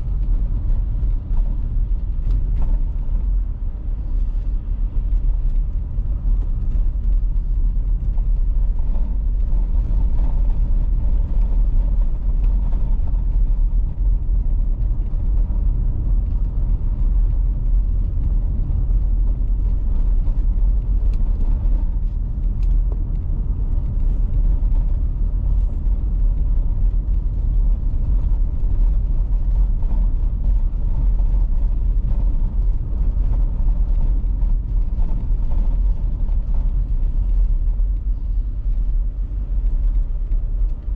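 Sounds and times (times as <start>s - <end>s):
engine and tyres rumbling: 0.0s - 40.9s.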